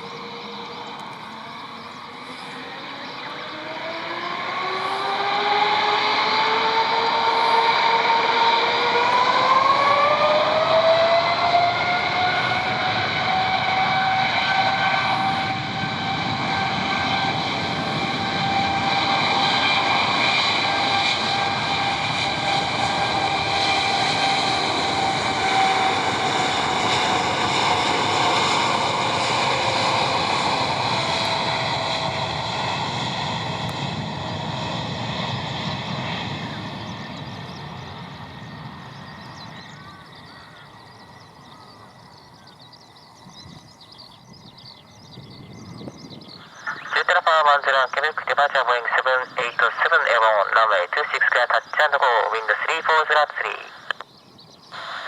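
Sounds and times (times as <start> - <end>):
jet engine rushing noise: 0.0 - 39.4, 45.6 - 54.0, 54.7 - 55.0
jet engine whine: 0.0 - 55.0.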